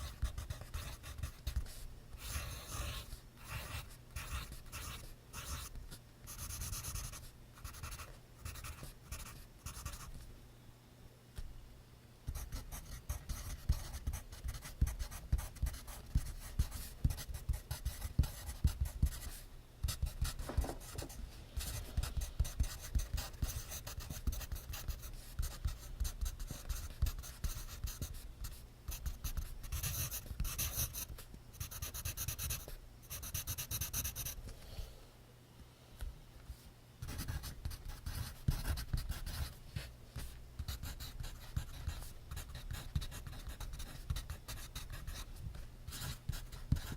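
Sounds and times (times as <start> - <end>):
pencil writing on paper: 0.0 - 5.7, 6.3 - 10.1, 12.4 - 34.4, 37.0 - 45.3, 45.9 - 46.9.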